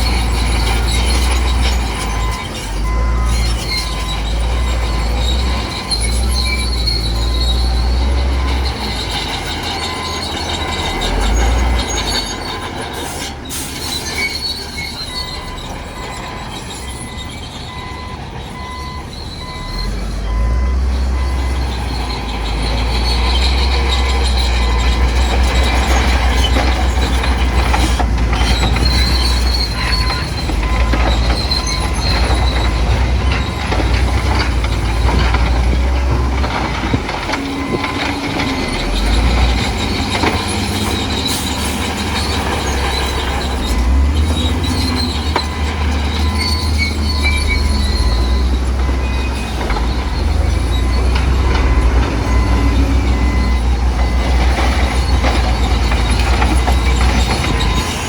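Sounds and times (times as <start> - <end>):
diesel engine running: 0.0 - 58.0
steel tracks squealing: 0.0 - 58.0.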